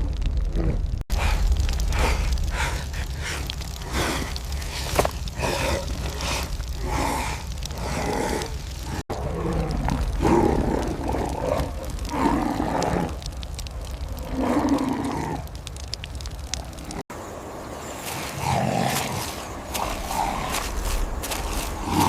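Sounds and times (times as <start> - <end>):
animal roaring and growling: 0.1 - 15.6, 18.1 - 22.0.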